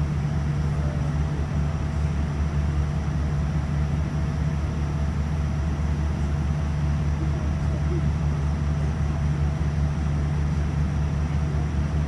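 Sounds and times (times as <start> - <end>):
airliner cabin hum and rumble: 0.0 - 12.0.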